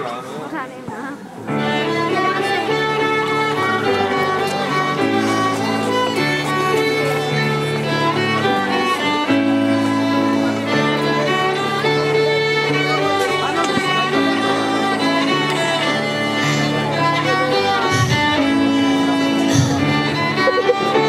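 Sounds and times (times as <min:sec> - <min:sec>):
violins playing slow piece: 0:01.5 - 0:21.0.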